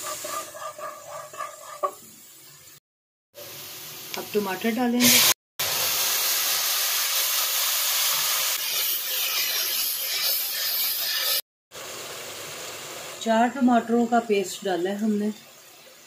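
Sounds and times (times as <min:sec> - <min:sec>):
tomato paste sizzling in a pan: 0:00.0 - 0:02.8, 0:03.4 - 0:16.0.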